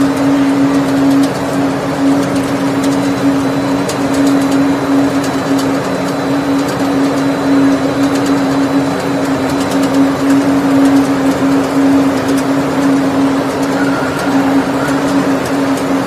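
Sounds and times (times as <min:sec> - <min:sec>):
fryer machine humming: 0:00.0 - 0:16.0.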